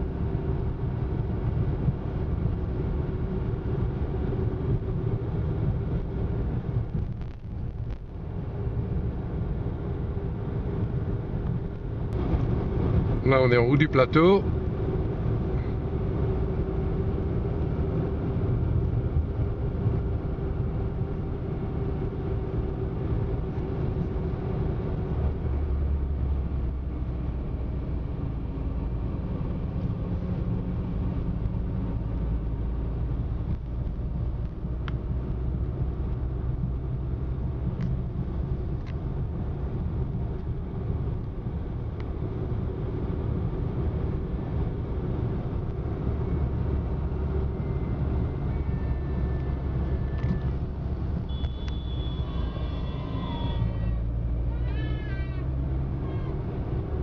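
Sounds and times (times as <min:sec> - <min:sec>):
car engine hum: 0:00.0 - 0:57.0
tyre and road noise: 0:00.0 - 0:57.0.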